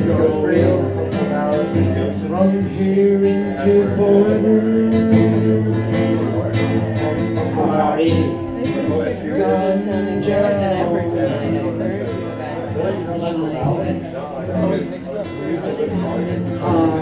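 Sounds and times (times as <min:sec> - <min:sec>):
man singing long notes: 0:00.0 - 0:14.8, 0:15.7 - 0:17.0
acoustic guitar strumming: 0:00.0 - 0:17.0.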